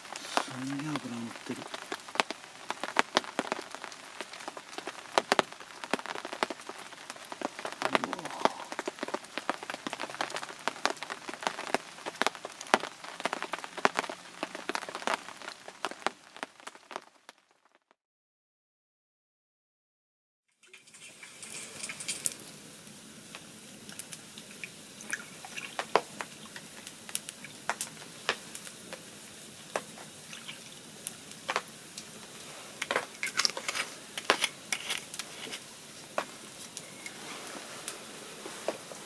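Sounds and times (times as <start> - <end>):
fire crackling: 0.0 - 17.9, 20.6 - 39.0.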